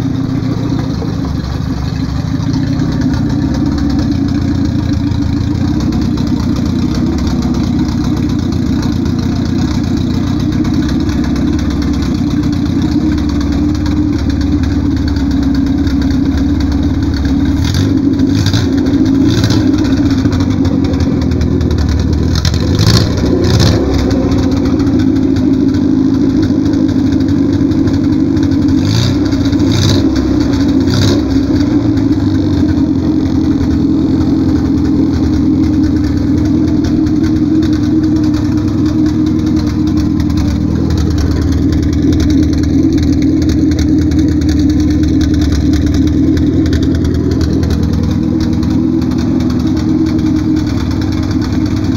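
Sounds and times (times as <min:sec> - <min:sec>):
car engine running and revving: 0:00.0 - 0:51.9.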